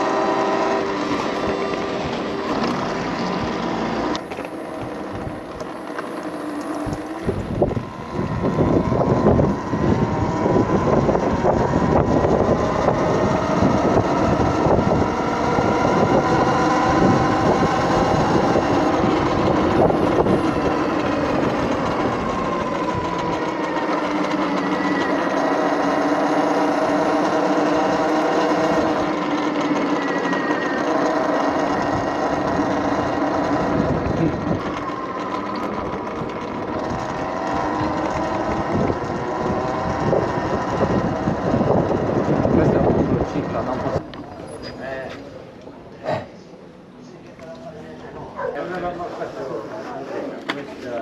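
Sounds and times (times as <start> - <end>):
electric motorbike motor whining: 0.0 - 51.0.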